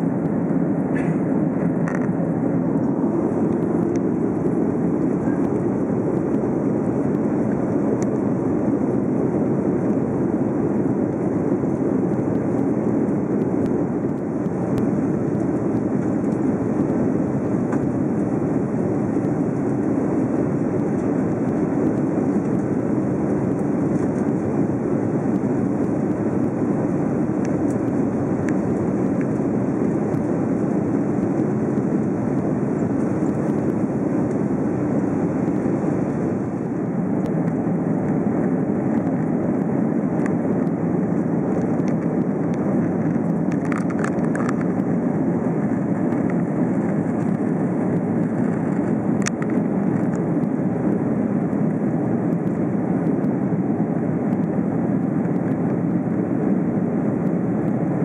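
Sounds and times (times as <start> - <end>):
aircraft cabin engine rush: 0.0 - 58.0.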